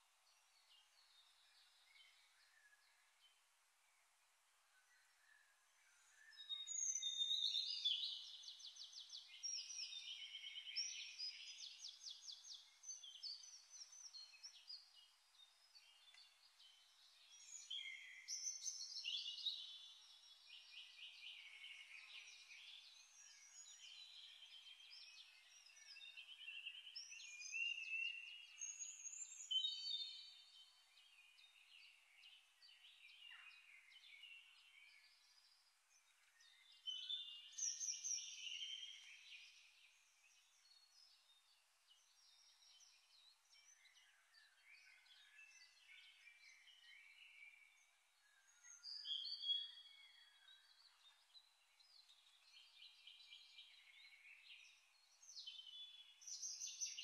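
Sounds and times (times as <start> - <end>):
faint birdsong warbling: 0.0 - 57.0.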